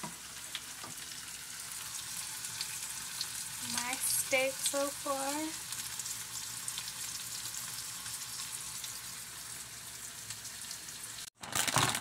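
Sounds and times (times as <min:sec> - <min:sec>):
steaks sizzling in pan: 0:00.0 - 0:11.3.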